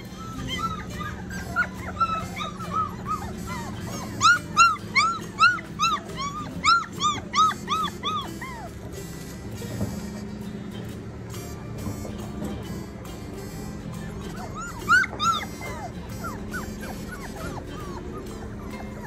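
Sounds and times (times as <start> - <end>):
puppies yipping and whining: 0.0 - 19.0.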